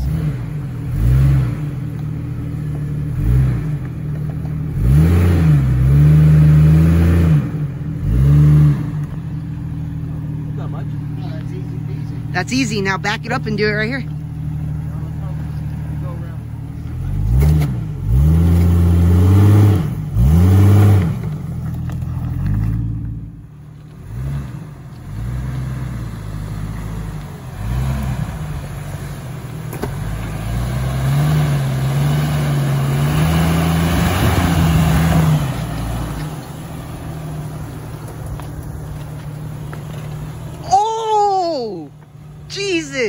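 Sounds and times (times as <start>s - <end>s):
car engine revving: 0.0s - 40.8s.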